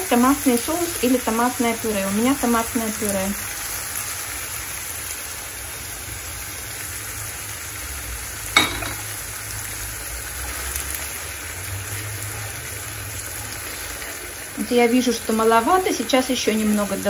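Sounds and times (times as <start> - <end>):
mince sizzling in a frying pan: 0.0 - 17.0.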